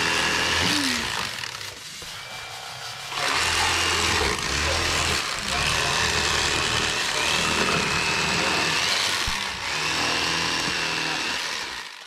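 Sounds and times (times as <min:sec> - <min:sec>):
electric knife motor buzzing: 0:00.0 - 0:02.3, 0:03.0 - 0:12.0.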